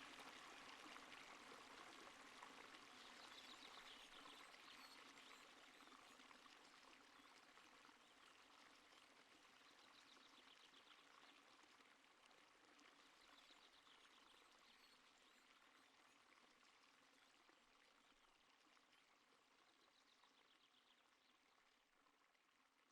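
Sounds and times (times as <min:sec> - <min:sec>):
stream running water: 0:00.0 - 0:22.9.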